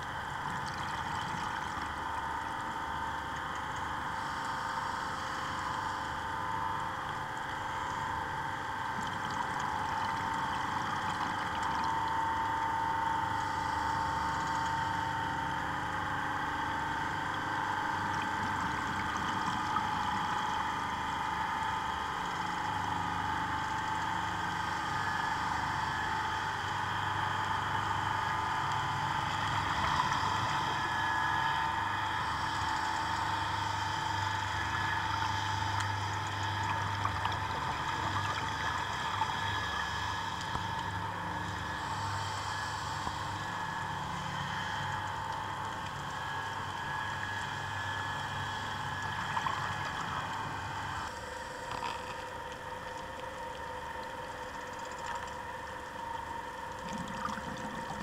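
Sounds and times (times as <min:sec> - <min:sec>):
boat engine heard underwater: 0:00.0 - 0:58.0.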